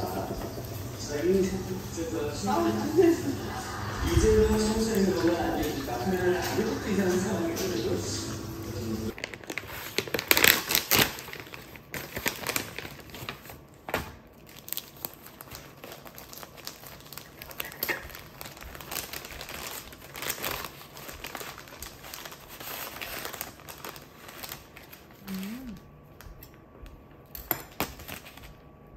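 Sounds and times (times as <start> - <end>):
plastic and paper wrapping crinkling: 0.0 - 8.4, 9.1 - 25.8, 27.7 - 28.7.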